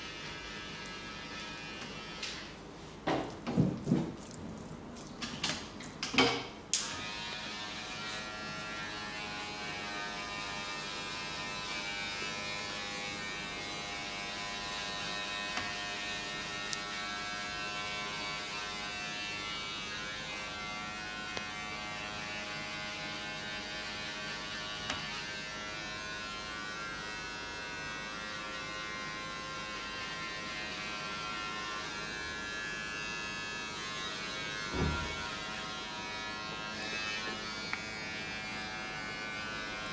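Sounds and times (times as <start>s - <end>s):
electric massager buzzing: 0.0s - 2.6s, 6.8s - 39.9s.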